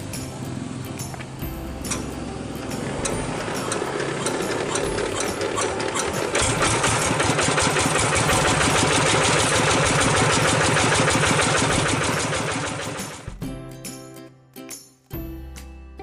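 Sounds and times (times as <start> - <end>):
diesel engine knocking: 0.0 - 13.3.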